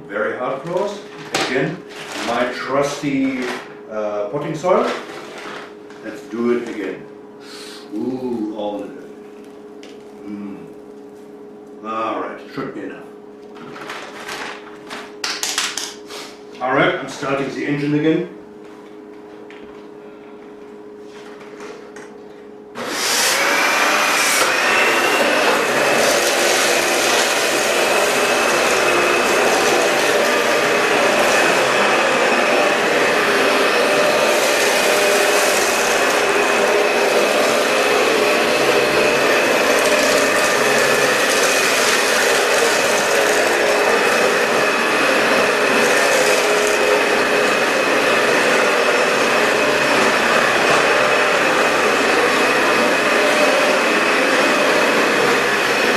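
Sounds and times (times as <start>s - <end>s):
vacuum cleaner motor whine: 0.0s - 11.2s, 11.8s - 55.9s.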